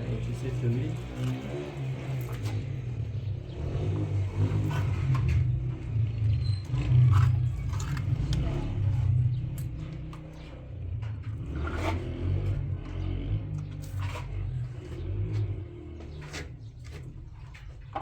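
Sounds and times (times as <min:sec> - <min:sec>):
motor rumbling: 0:00.0 - 0:18.0.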